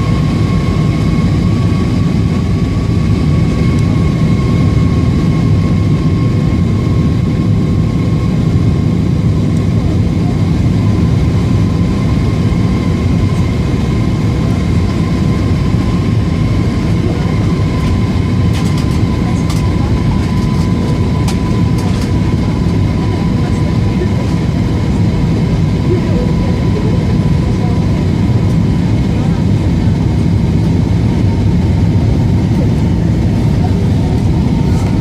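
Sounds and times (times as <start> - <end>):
aircraft cabin engine rumble: 0.0 - 35.0.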